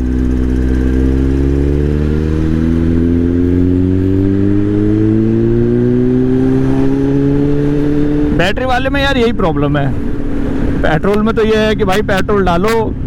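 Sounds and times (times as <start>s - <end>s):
motorcycle engine rising in pitch: 0.0s - 12.3s.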